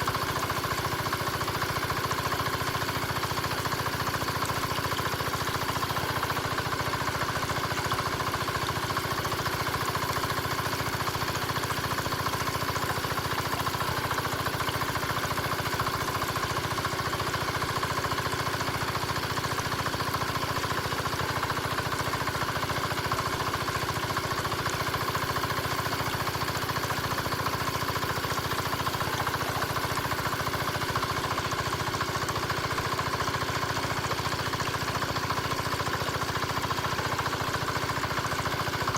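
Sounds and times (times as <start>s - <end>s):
small diesel engine running: 0.0s - 38.9s.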